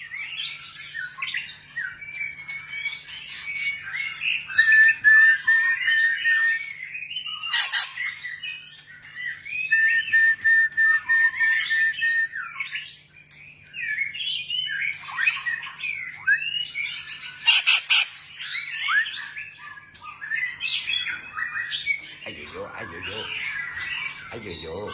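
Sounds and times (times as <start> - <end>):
bird singing varied song: 0.0 - 24.9.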